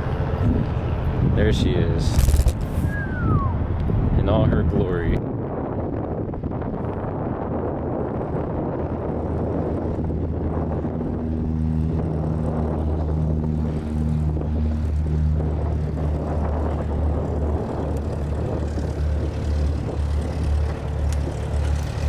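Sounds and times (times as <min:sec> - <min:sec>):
light aircraft engine droning: 0:00.0 - 0:22.0.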